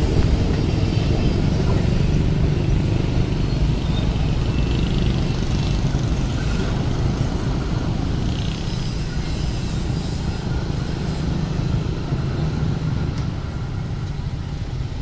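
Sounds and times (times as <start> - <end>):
diesel locomotive rumble: 0.0 - 15.0
train wheels on rails: 0.0 - 15.0.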